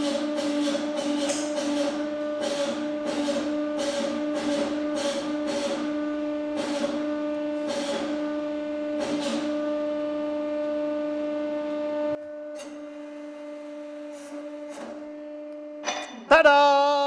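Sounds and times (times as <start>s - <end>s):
hydraulic pump humming: 0.0s - 16.4s.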